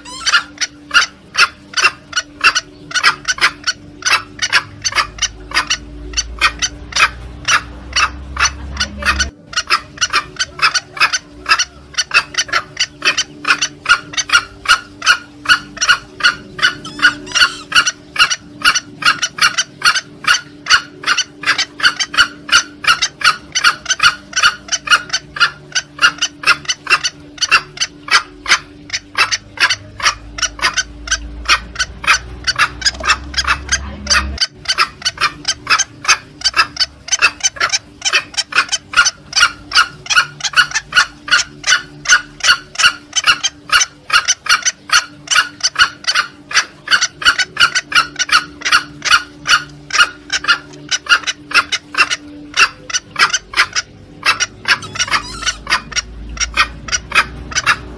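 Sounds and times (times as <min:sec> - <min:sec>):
junglefowl call: 0:00.0 - 0:57.9.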